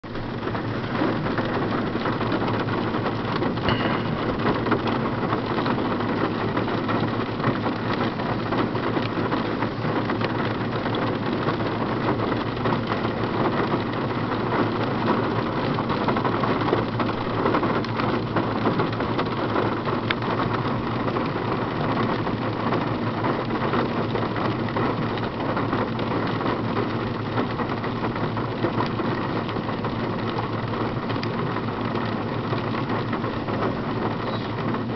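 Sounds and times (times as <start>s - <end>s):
heavy rain on car roof: 0.0s - 34.9s.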